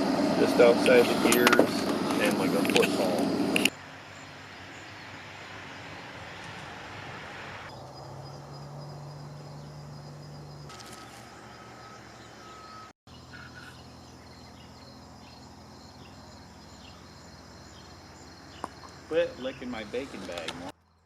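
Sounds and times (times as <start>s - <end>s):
low engine hum: 0.0s - 20.9s
insects trilling: 2.2s - 6.8s, 7.6s - 21.0s.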